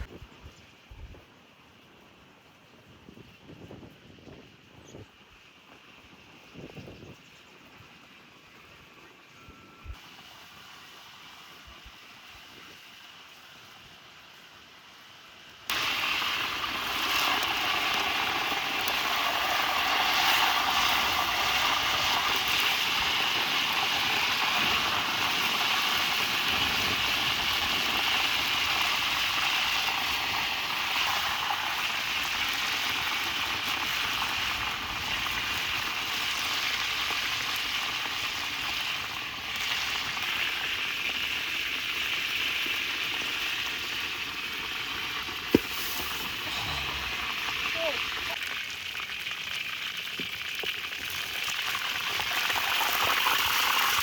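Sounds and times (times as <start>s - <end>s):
fish sizzling in hot oil: 10.0s - 54.0s.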